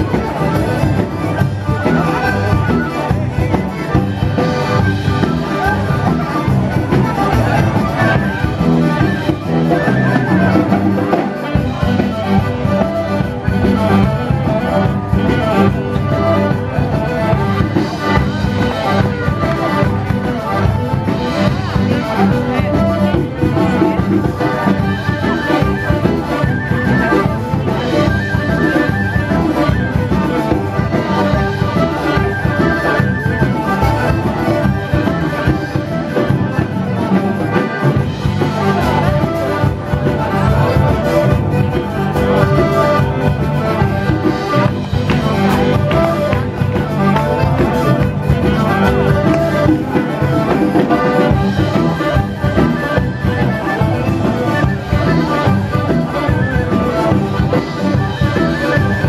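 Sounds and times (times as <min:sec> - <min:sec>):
folk dance music over loudspeakers: 0:00.0 - 0:59.0.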